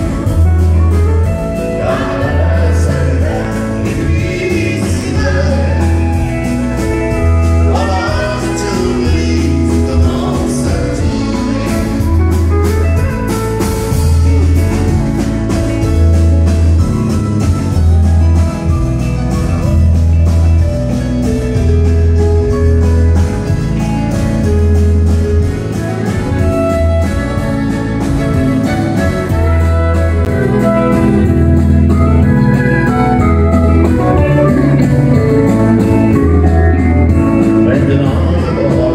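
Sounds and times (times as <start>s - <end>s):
bass line: 0.0s - 38.9s
country band music: 0.0s - 38.9s
fiddle: 0.0s - 38.9s.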